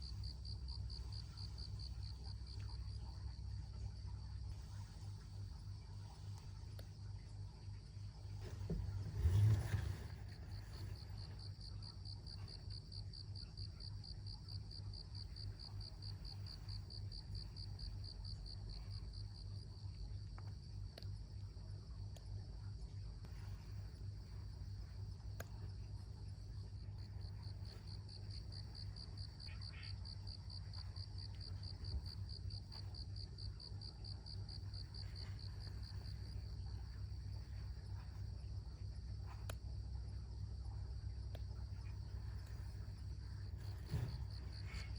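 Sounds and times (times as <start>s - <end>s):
cricket trilling: 0.0s - 22.8s, 23.5s - 44.9s
low steady hum: 0.0s - 44.9s.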